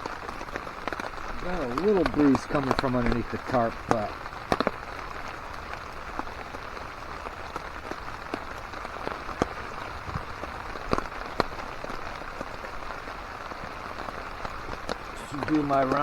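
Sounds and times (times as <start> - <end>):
rain on a tarp: 0.0 - 16.0
water dripping: 0.0 - 16.0.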